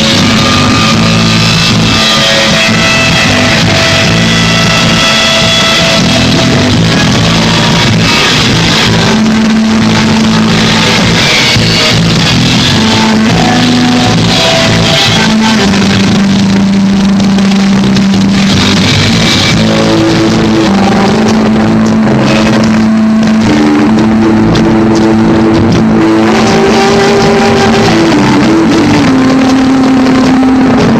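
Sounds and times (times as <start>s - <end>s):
electric guitar rock music: 0.0s - 30.9s.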